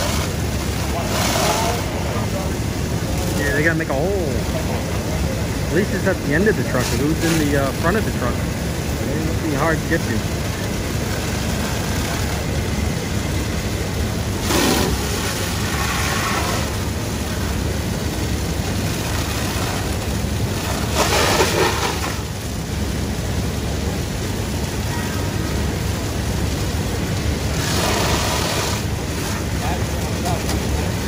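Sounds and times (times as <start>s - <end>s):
hose water spraying: 0.0s - 31.0s
low engine rumble: 0.0s - 31.0s.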